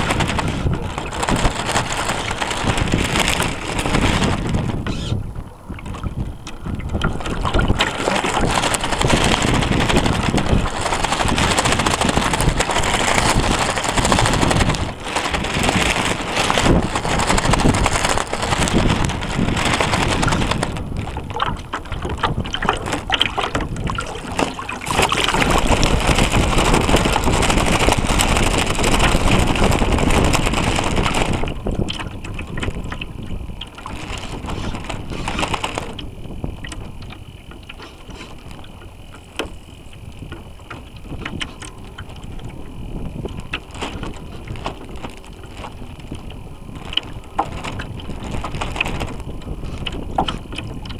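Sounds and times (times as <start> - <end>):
water rushing along hull: 0.0 - 50.9
wind buffeting microphone: 0.0 - 50.9.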